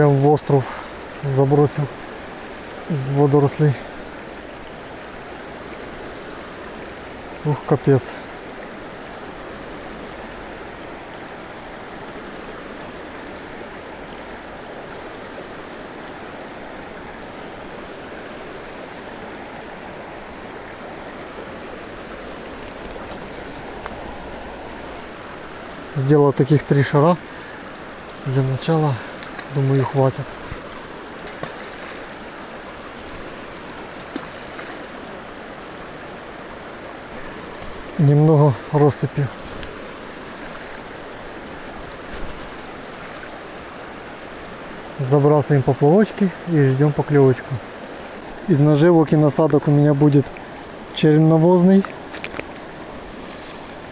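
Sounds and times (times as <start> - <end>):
flowing river water: 0.0 - 53.9.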